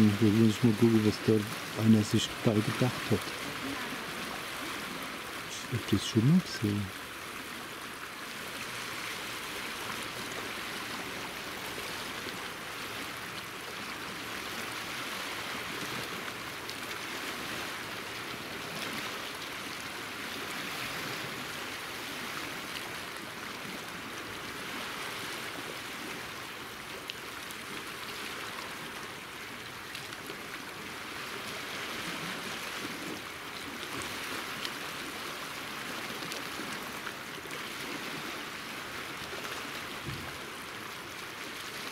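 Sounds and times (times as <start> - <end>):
waves lapping over rocks: 0.0 - 41.9.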